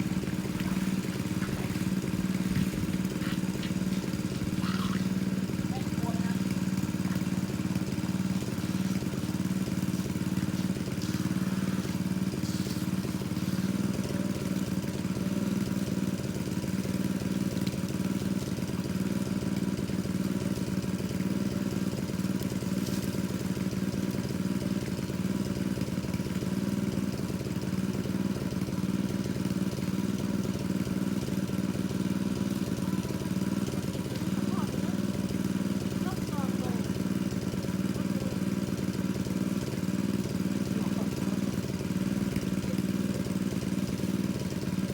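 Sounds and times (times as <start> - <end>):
pump engine running: 0.0 - 44.9.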